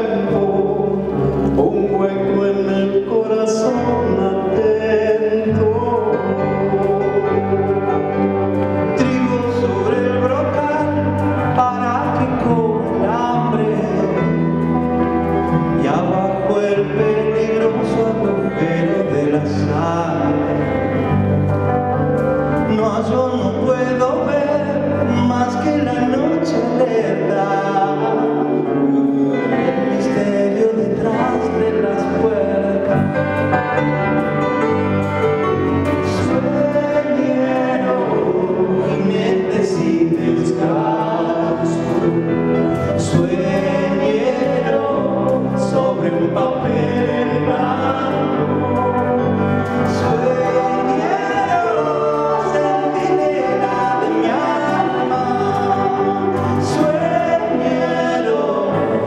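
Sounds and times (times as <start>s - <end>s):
two men singing: 0.0s - 21.7s, 22.4s - 59.0s
bass guitar: 0.0s - 59.0s
electric guitar: 0.0s - 59.0s.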